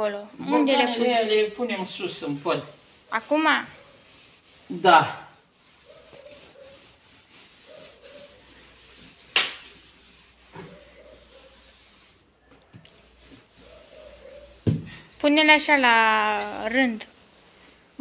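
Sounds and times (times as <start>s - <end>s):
cloth wiping glass jars: 0.5s - 18.0s.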